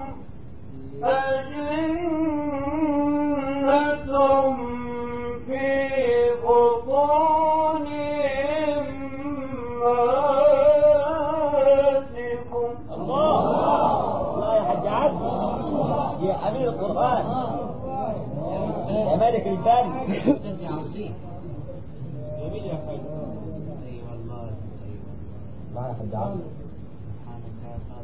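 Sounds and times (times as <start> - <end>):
man chanting recitation: 0.0 - 28.0.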